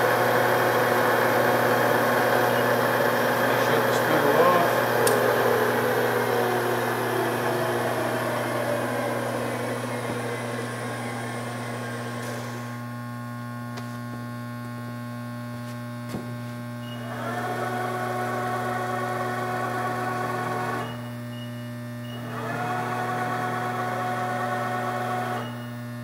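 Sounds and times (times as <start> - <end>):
mill drive motors whining: 0.0 - 15.0, 16.0 - 26.0
steady electrical hum: 0.0 - 24.7.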